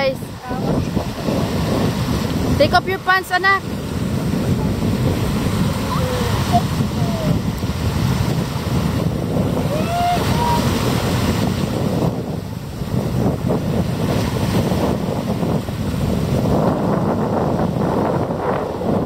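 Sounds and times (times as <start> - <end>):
surf on a beach: 0.0 - 19.0
wind buffeting microphone: 0.0 - 19.0.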